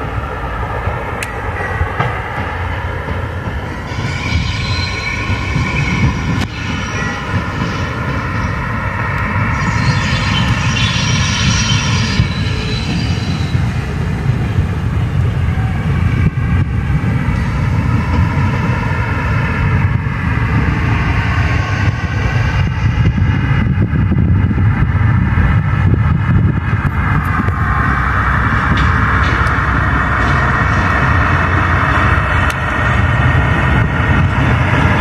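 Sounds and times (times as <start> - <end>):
diesel locomotive engine rumble: 0.0 - 35.0
locomotive whine: 0.0 - 35.0.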